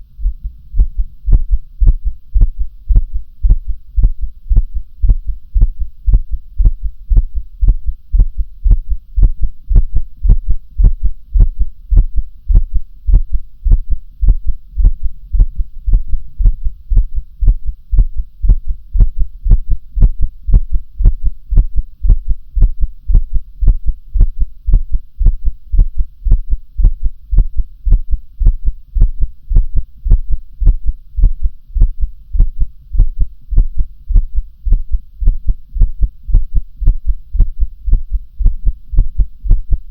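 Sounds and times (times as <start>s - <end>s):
heartbeat thumps: 0.0s - 39.9s
low hum: 0.0s - 39.9s.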